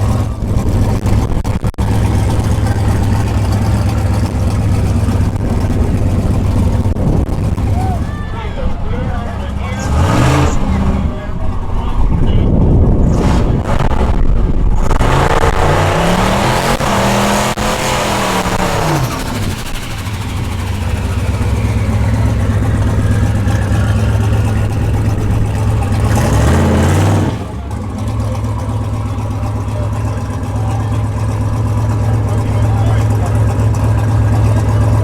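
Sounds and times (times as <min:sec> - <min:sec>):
car engine revving and idling: 0:00.0 - 0:35.0.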